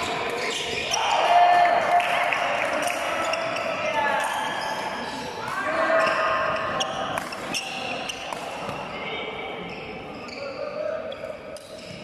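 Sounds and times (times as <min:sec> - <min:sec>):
shoes squeaking on court floor: 0:00.0 - 0:01.0, 0:03.0 - 0:12.0.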